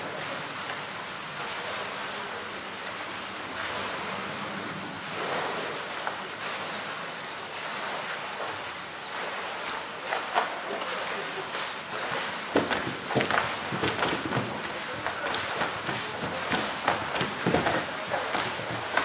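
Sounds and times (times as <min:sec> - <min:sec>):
cicada chorus: 0:00.0 - 0:19.0.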